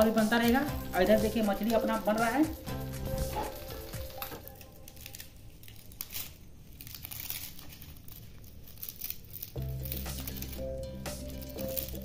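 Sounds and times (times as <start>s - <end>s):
leaves crinkling and tearing: 0.0s - 12.0s.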